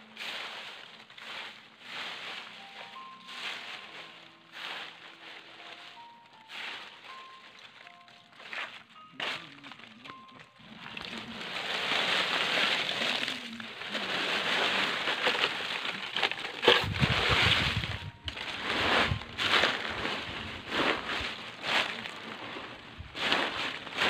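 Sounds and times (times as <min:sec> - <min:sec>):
leaves pouring in: 0:00.0 - 0:08.4, 0:09.6 - 0:24.0
dry leaves rustling and crackling: 0:00.0 - 0:24.0
leaves crunching underfoot: 0:00.0 - 0:24.0.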